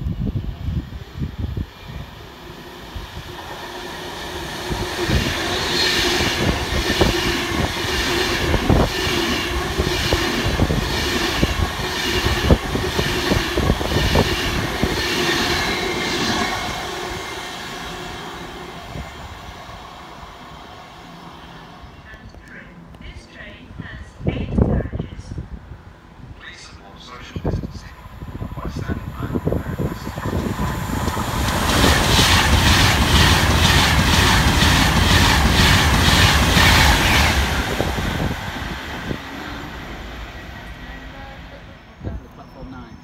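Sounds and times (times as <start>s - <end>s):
train steady hum: 0.0s - 43.0s.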